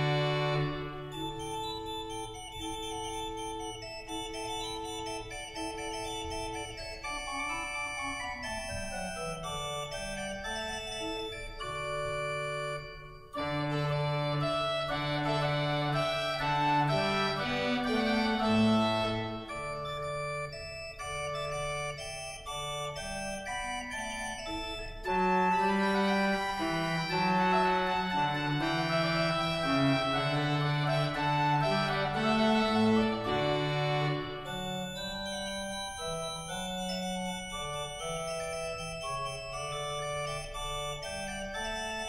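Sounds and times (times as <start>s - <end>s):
church organ playing chords: 0.0s - 42.0s.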